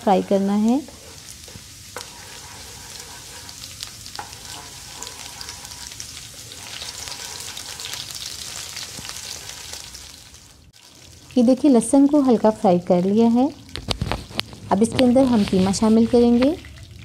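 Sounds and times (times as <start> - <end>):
garlic sizzling in hot oil: 0.0 - 16.6.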